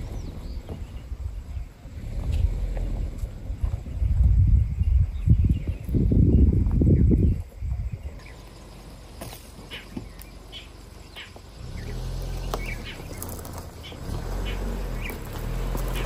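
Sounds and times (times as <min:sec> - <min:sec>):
bird chirps: 0:00.0 - 0:02.1, 0:03.8 - 0:16.0.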